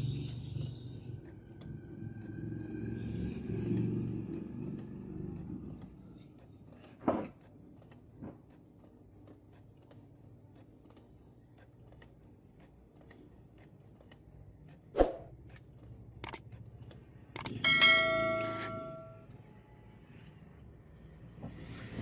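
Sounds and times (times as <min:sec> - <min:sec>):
printer motors whirring: 0:00.0 - 0:17.6.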